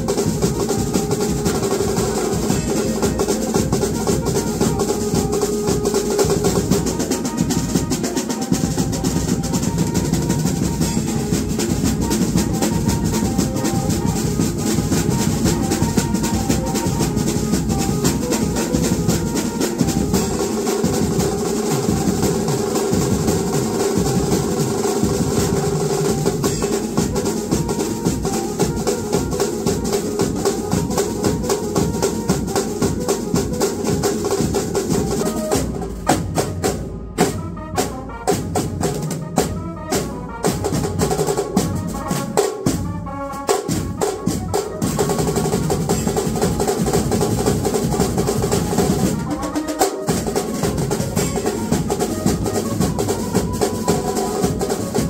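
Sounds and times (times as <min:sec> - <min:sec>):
snare and tom drums playing: 0:00.0 - 0:55.0.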